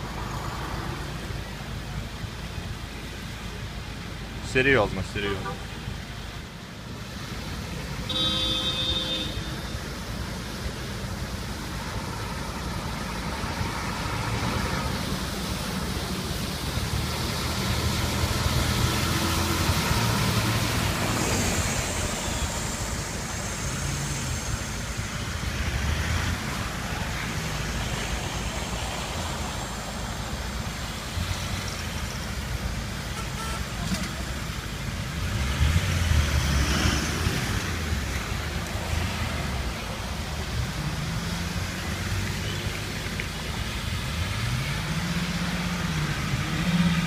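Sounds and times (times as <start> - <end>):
car and truck engines: 0.0 - 47.0
tyres through water: 0.0 - 47.0.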